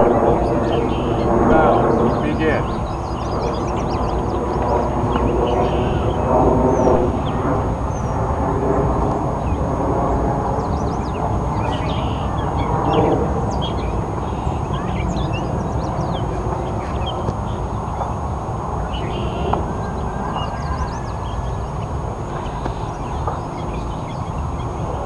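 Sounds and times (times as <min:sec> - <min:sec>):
birds chirping: 0:00.0 - 0:08.3, 0:10.5 - 0:25.0
low outdoor rumble: 0:00.0 - 0:25.0.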